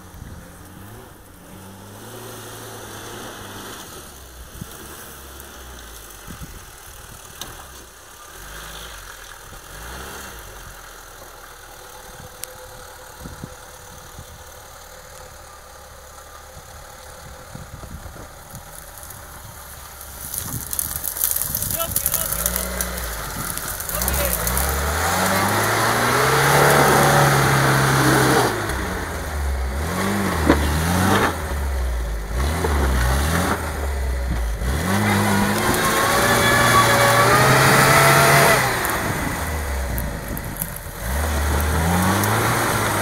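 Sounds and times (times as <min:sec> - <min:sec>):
car engine running at low revs: 0:00.0 - 0:43.0.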